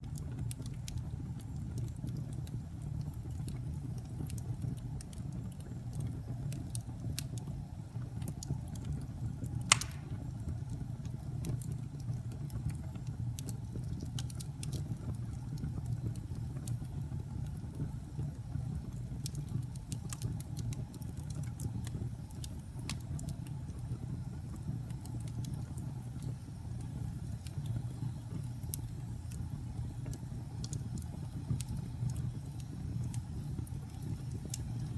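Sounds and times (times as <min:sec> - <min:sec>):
fire crackles and pops: 0:00.0 - 0:34.9
wood fire burning: 0:00.0 - 0:34.9.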